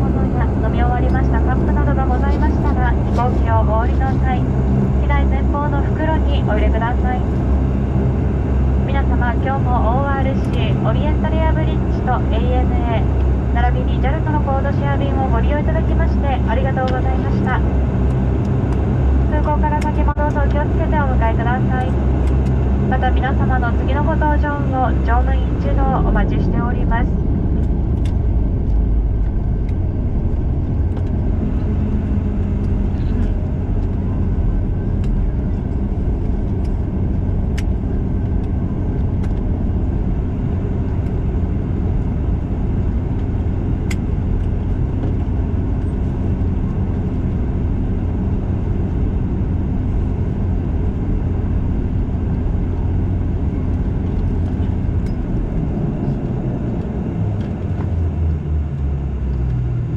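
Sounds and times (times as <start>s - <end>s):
turboprop engines rumbling: 0.0s - 59.9s.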